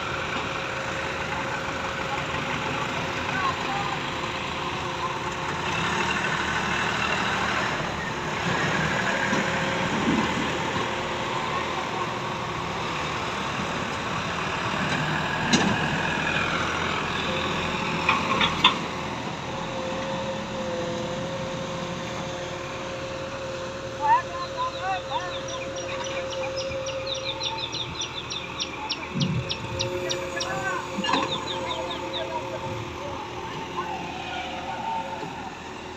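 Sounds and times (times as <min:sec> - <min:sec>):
digger diesel engine running: 0:00.0 - 0:35.9.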